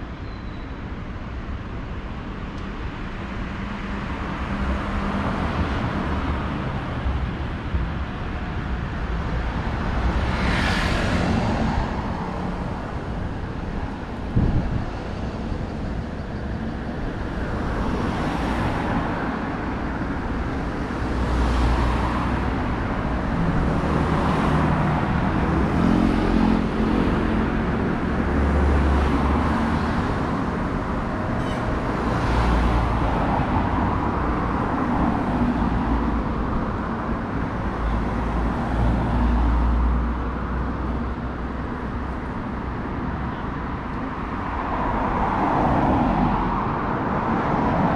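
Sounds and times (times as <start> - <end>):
low traffic rumble: 0.0 - 47.9
cars passing: 0.9 - 47.9.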